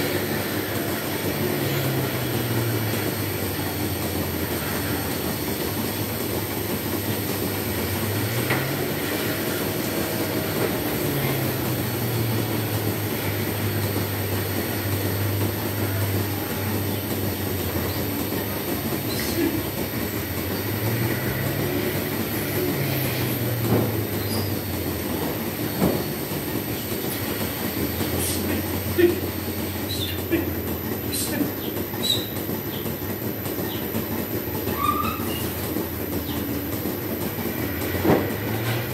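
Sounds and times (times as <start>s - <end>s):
milking machinery hum: 0.0s - 38.9s.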